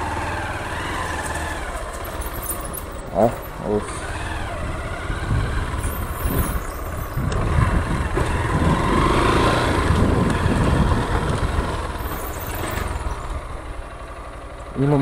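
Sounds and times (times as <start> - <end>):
motorcycle engine running: 0.0 - 15.0
tyres rolling on cobblestones: 0.0 - 15.0.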